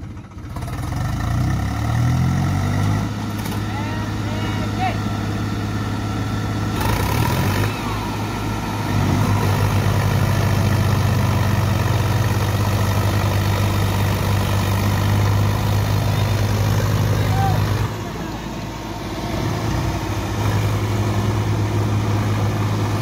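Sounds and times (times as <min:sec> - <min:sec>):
diesel tractor engine running: 0:00.0 - 0:23.0.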